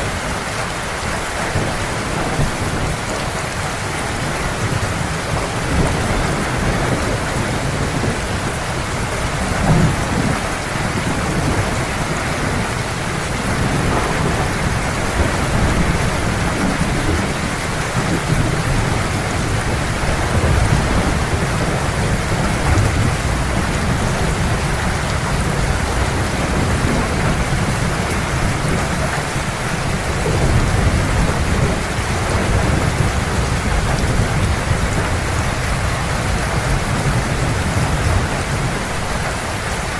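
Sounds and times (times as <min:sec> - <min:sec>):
heavy rain: 0:00.0 - 0:39.9
low thunder rumbling: 0:00.0 - 0:39.9.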